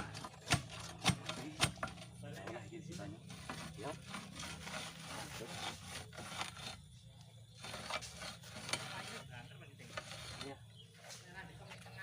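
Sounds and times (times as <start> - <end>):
pipe scraping and rubbing: 0.0 - 11.2.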